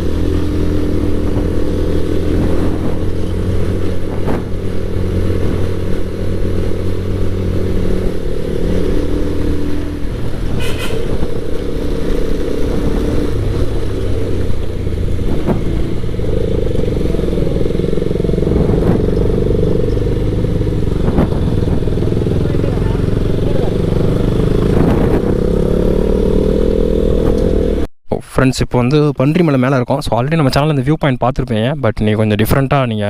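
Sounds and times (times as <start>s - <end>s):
motorcycle engine running: 0.0s - 27.8s.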